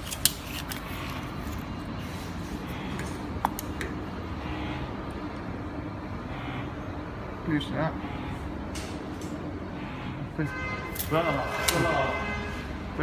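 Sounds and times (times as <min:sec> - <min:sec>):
printer machine hum: 0:00.0 - 0:13.0.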